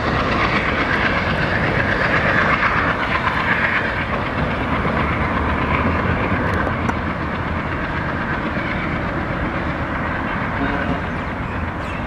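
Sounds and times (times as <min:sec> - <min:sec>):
rumble of wheels on rail: 0:00.0 - 0:12.0.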